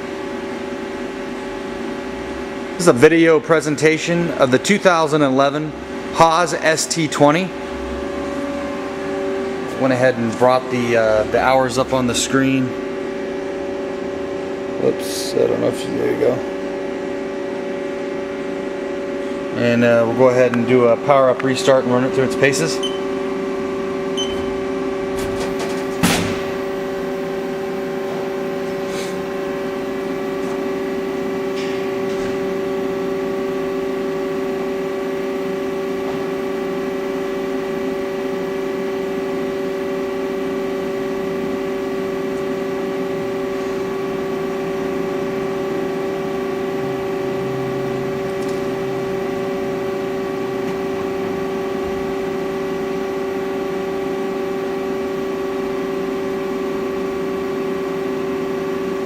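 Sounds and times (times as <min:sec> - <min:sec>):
lathe machine humming: 0:00.0 - 0:25.2, 0:26.6 - 0:59.0.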